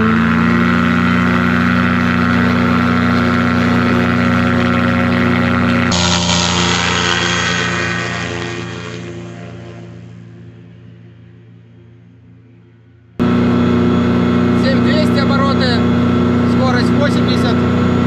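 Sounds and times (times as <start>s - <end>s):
glider engine and propeller: 0.0s - 18.0s.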